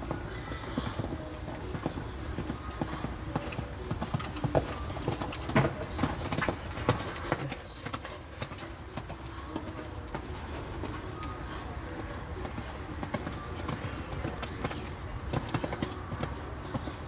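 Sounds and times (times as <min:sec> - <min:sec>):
horse hoofbeats on sand: 0:00.0 - 0:17.0.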